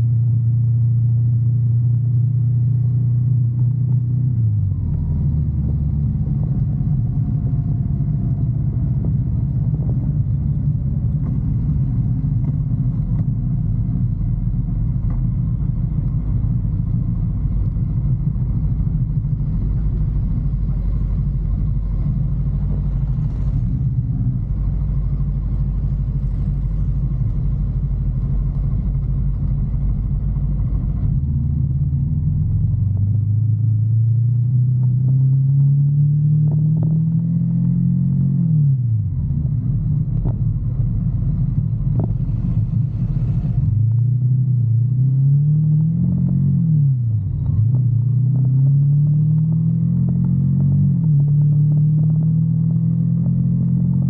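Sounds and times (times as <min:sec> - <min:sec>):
motorcycle engine running: 0:00.0 - 0:45.1.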